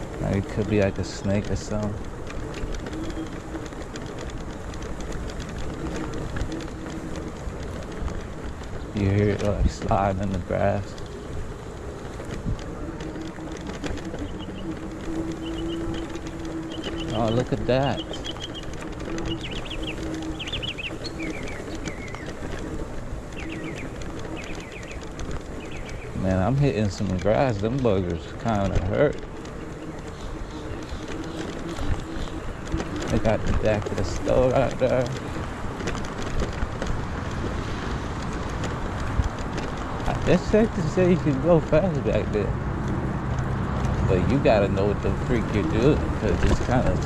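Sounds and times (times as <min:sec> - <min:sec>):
faint low hum: 0:00.0 - 0:35.4, 0:44.0 - 0:47.0
faint clicks: 0:00.0 - 0:47.0
small birds chirping: 0:00.0 - 0:47.0
tyres rolling through grass: 0:00.0 - 0:47.0
vehicle rattles over bumps: 0:00.0 - 0:47.0.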